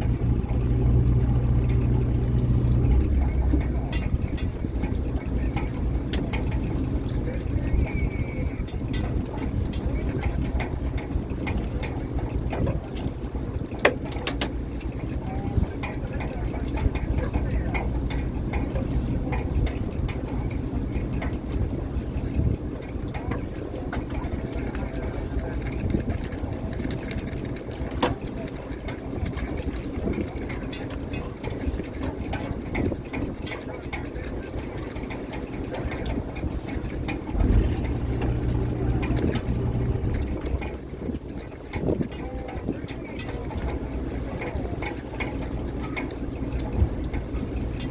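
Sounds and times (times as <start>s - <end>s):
boat engine running: 0.0s - 47.9s
gear clicking and knocking: 0.0s - 47.9s.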